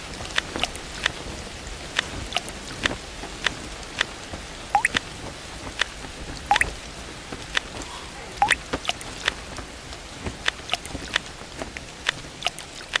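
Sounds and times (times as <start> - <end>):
rain hissing: 0.0 - 13.0
water drops dripping and plopping: 1.9 - 6.8, 7.4 - 13.0.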